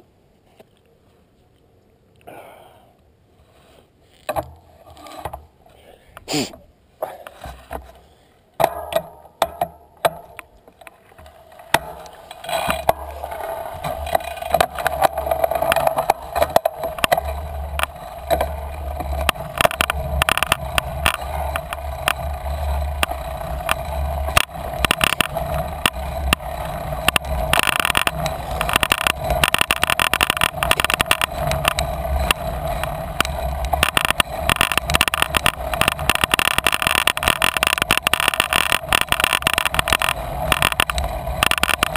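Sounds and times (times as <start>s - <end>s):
bicycle tyres rolling: 3.4s - 5.9s, 7.0s - 41.9s
bike rattling over bumps: 7.0s - 41.9s.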